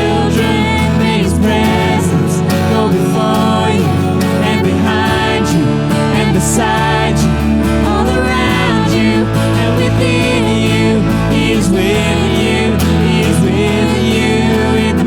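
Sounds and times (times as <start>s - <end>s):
worship band music: 0.0s - 15.0s.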